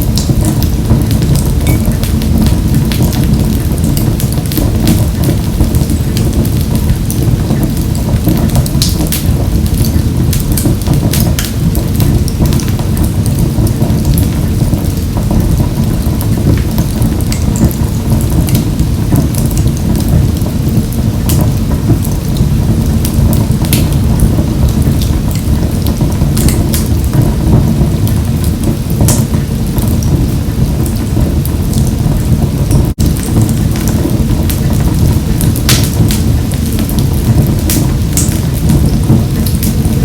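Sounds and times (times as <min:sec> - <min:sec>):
fire crackling and popping: 0:00.0 - 0:40.0
wood fire rumbling: 0:00.0 - 0:40.0.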